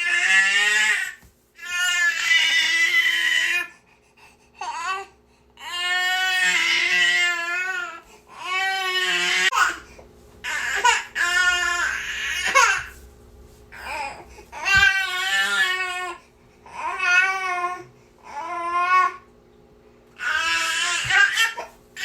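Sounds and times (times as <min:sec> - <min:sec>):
baby crying: 0:00.0 - 0:03.7, 0:04.6 - 0:13.0, 0:13.8 - 0:19.2, 0:20.2 - 0:21.7.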